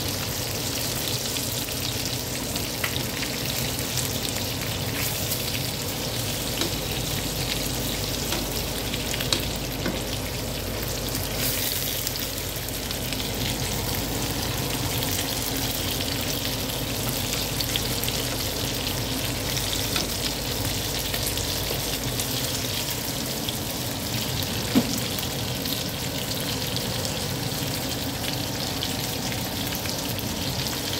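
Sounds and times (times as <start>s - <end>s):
meat sizzling in oil: 0.0s - 30.9s.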